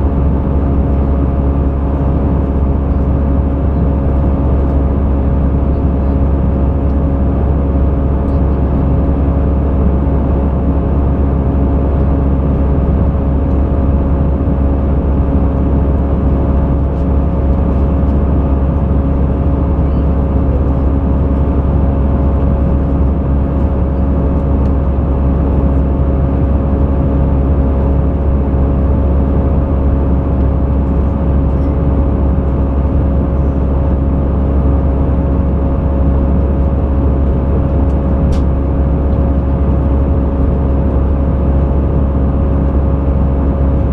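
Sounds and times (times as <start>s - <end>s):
airplane cabin drone: 0.0s - 43.9s
steady humming tones: 0.0s - 43.9s.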